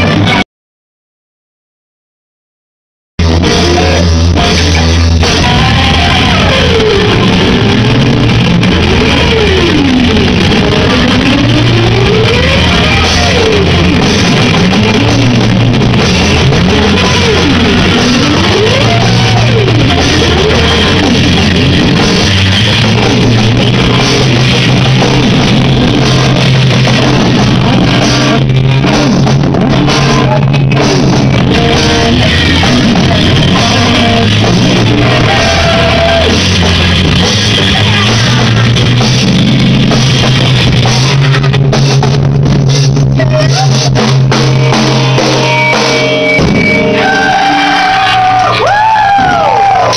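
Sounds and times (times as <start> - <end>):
distorted electric guitar: 0.0 - 0.4, 3.2 - 49.9
drum kit: 0.0 - 0.4, 3.2 - 49.9
sliding pitch: 3.2 - 41.7, 44.2 - 49.9.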